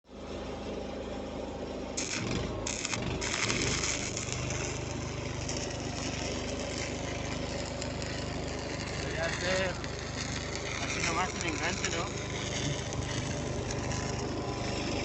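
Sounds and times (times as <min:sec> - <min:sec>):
engine running steadily: 0:00.1 - 0:15.0
welding arc crackling: 0:02.0 - 0:15.0.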